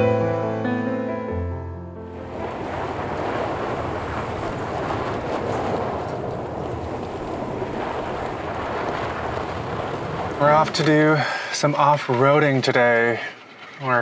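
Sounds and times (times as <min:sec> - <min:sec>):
wind buffeting microphone: 0:02.1 - 0:14.0.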